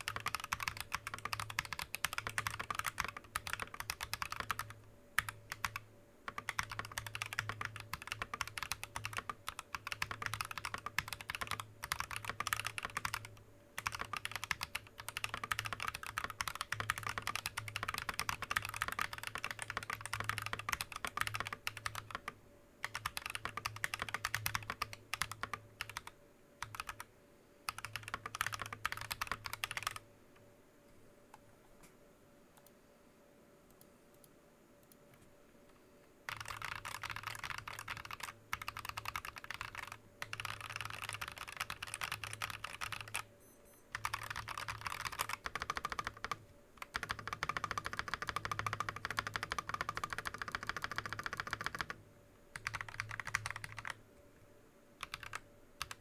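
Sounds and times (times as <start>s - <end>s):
fast typing on mechanical keyboard: 0.0s - 27.1s, 27.7s - 30.0s, 36.3s - 43.3s, 43.9s - 54.0s, 55.0s - 56.0s.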